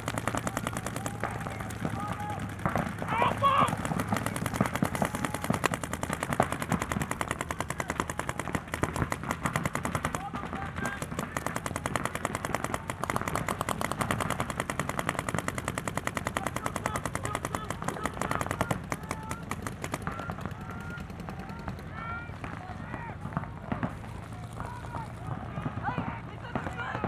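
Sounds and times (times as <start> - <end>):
paintball markers firing rapidly: 0.0 - 27.0.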